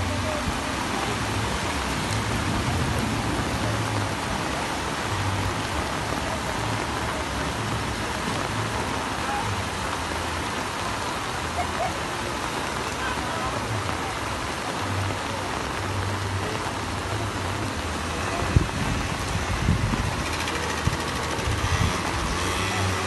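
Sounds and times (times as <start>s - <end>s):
floodwater running: 0.0s - 23.0s
heavy rain pouring: 0.0s - 23.0s.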